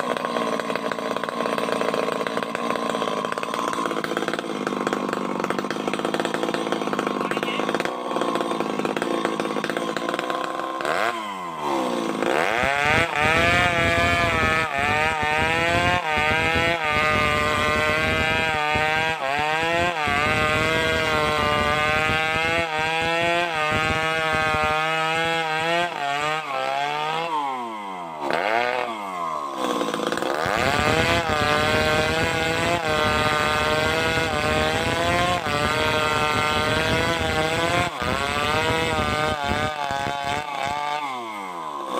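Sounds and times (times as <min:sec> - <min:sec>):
chainsaw cutting at high revs: 0:00.0 - 0:41.9.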